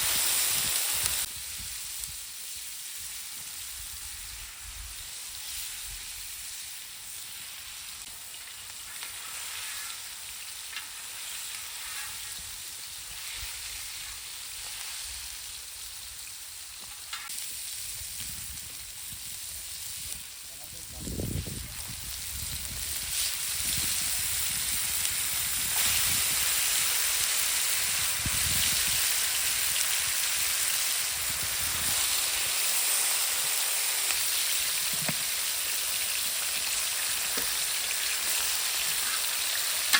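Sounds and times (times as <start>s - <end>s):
chicken frying in oil: 0.0s - 39.9s.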